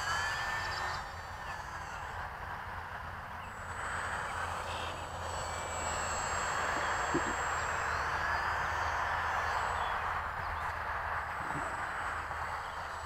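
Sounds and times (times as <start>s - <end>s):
faint high steady whine: 0.0s - 13.0s
rc plane motor buzzing: 0.0s - 13.0s.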